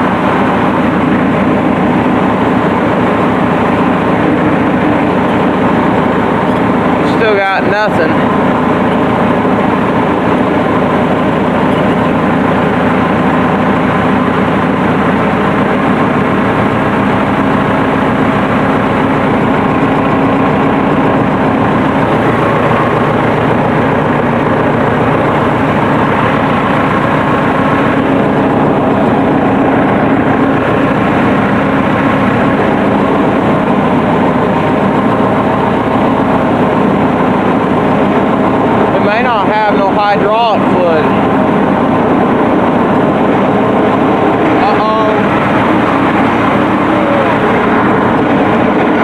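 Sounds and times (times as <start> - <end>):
diesel tractor engine running: 0.0 - 49.0.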